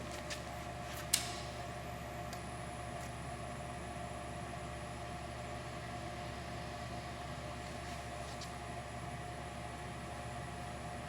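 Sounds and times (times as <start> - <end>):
lathe humming with faint whine: 0.0 - 11.0.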